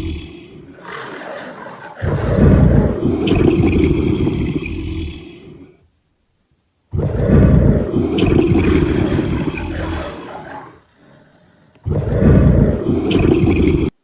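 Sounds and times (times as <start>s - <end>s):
lion roaring: 0.0s - 5.8s, 6.9s - 13.9s.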